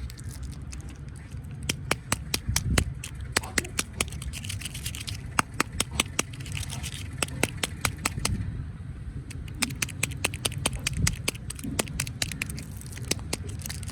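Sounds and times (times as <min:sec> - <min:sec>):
candy wrapper crackling: 0:00.0 - 0:08.4, 0:09.3 - 0:13.9.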